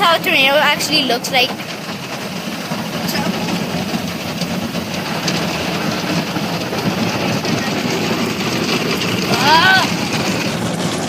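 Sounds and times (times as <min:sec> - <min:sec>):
car wash water rushing: 0:00.0 - 0:11.0.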